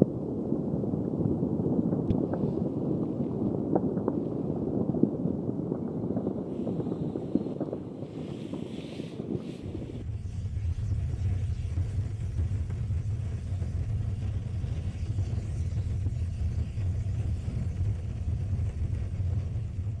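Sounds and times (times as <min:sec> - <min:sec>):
volcano rumbling: 0:00.0 - 0:20.0.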